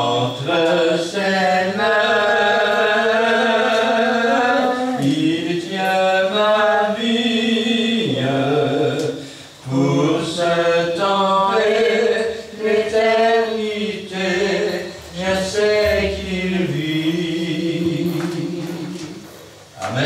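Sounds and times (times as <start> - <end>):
man singing a slow hymn: 0.0 - 20.0.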